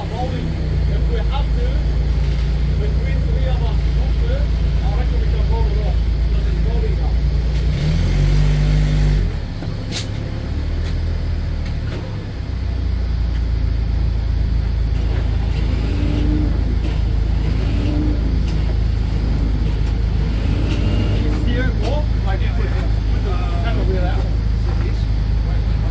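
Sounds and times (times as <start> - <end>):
heavy truck engine rumbling: 0.0 - 25.9.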